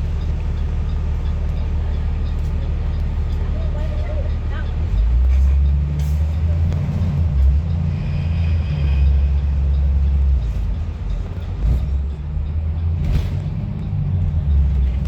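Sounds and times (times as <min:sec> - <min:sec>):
bus rumble from inside: 0:00.0 - 0:15.0.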